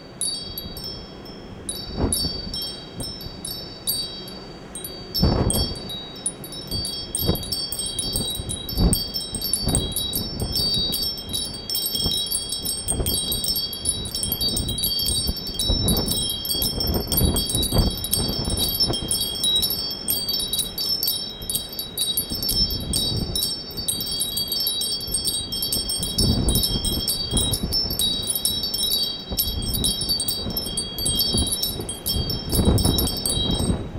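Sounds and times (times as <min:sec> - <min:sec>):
low gusting rumble: 0:00.0 - 0:33.9
wind chimes ringing: 0:00.0 - 0:33.9.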